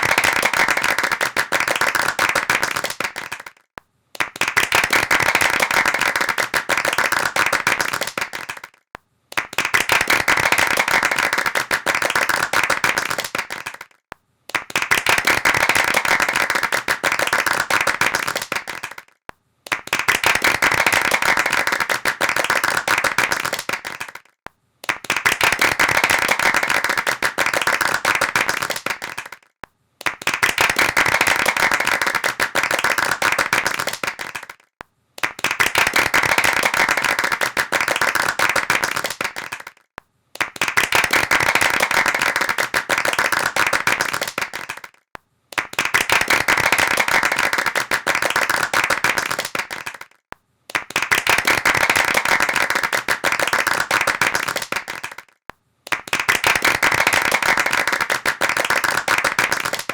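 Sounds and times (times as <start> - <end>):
hand clapping: 0.0 - 59.9.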